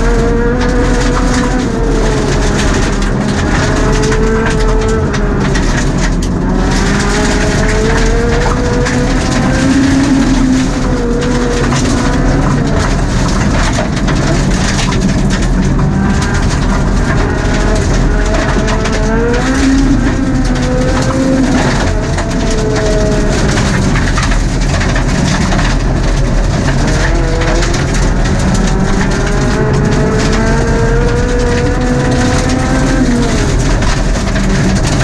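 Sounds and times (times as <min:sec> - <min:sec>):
gravel crunching under tyres: 0:00.0 - 0:35.0
rally car engine revving: 0:00.0 - 0:35.0
stones rattling against underbody: 0:00.1 - 0:35.0.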